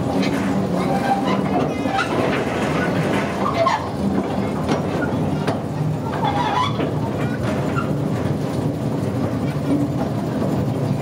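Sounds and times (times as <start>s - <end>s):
train running drone: 0.0s - 11.0s.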